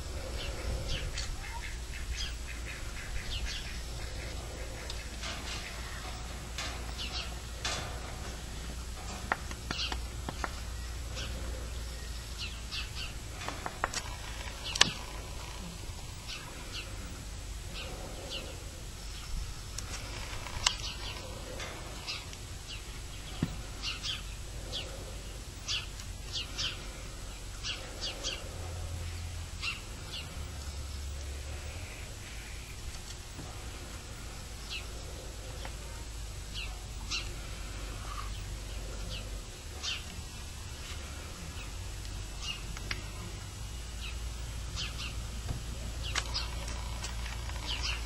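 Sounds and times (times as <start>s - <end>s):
birds chirping: 0.0s - 48.0s
steady low rumble: 0.0s - 48.0s.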